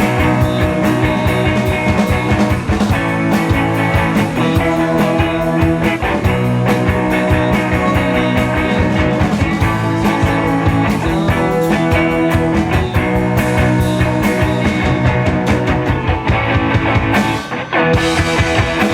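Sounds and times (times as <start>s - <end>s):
busy drum beat: 0.0s - 18.9s
electric guitar chords: 0.0s - 18.9s.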